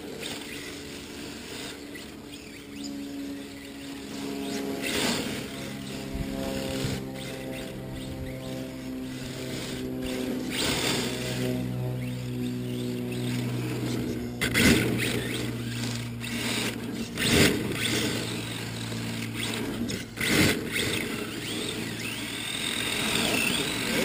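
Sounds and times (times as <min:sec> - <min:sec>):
toy car motors whining: 0:00.0 - 0:24.0.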